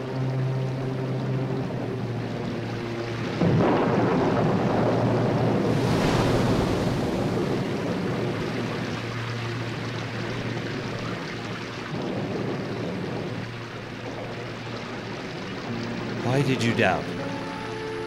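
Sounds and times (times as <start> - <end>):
wind: 0.0 - 18.0
crashing waves: 1.6 - 18.0.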